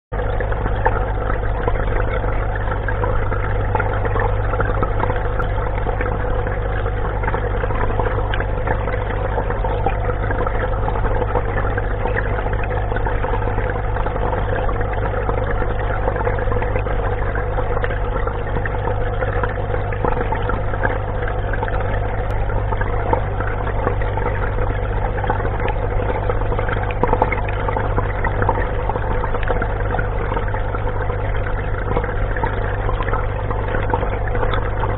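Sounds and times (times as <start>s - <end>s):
pump humming: 0.1s - 34.9s
water rushing: 0.2s - 34.9s.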